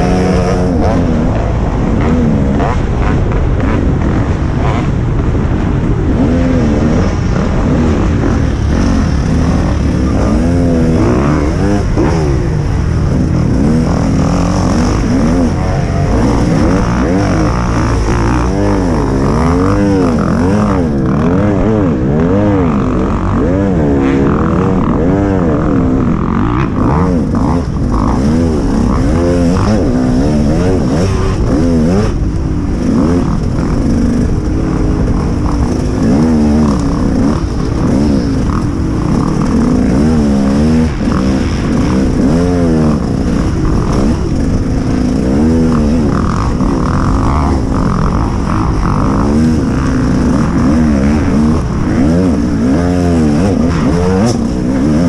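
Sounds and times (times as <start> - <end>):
low rumble: 0.0 - 55.0
motocross bike engine revving: 0.0 - 55.0.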